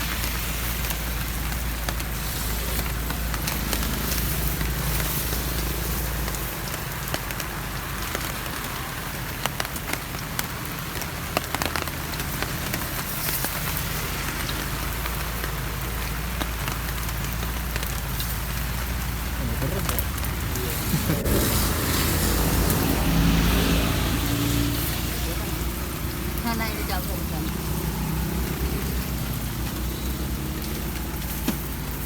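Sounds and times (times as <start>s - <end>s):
batter deep-frying in oil: 0.0s - 32.0s.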